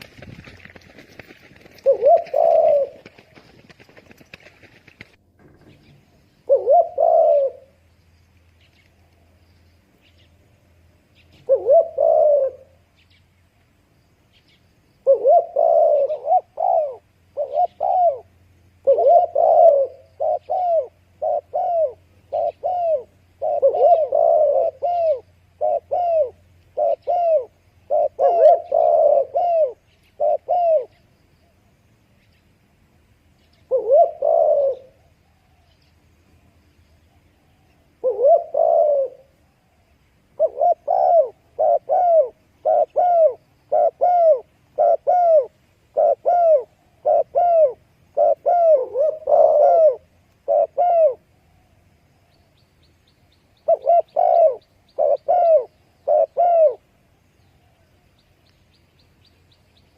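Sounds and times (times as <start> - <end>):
dove cooing: 0.0 - 7.9, 10.0 - 13.2, 14.4 - 31.1, 33.4 - 36.0, 37.1 - 51.8, 53.6 - 58.0.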